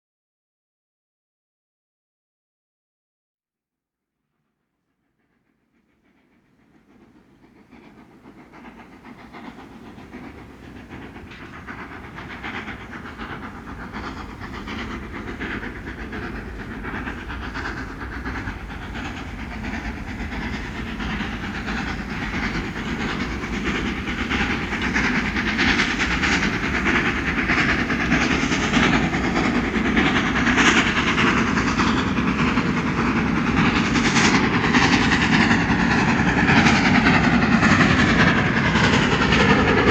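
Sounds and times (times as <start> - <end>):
steam train running: 5.1 - 39.9.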